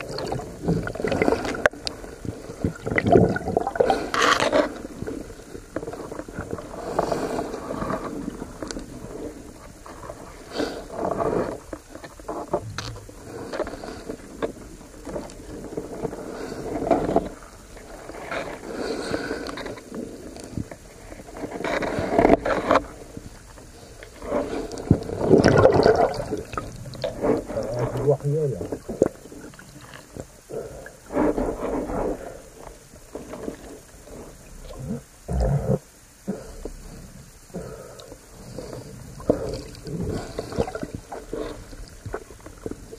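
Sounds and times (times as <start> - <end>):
muffled underwater water noise: 0.0 - 42.9.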